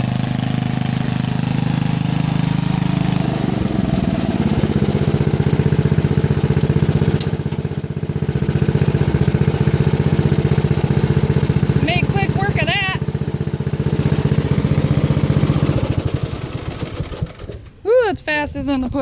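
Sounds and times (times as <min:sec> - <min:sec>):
riding mower engine running: 0:00.0 - 0:17.9.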